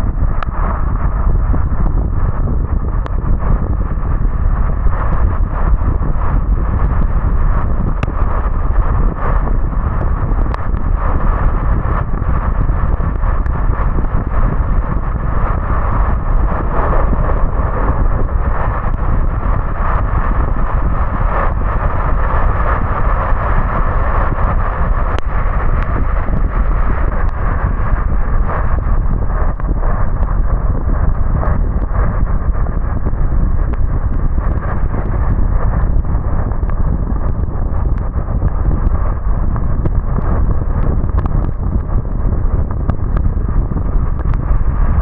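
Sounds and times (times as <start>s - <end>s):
wind noise: 0.0s - 45.0s.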